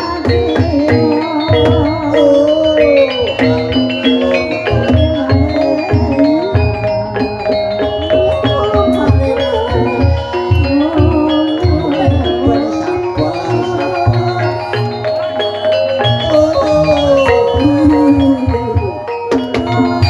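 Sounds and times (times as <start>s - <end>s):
struck metal and wooden mallet instruments: 0.0s - 20.0s
wavering melody line: 0.0s - 20.0s.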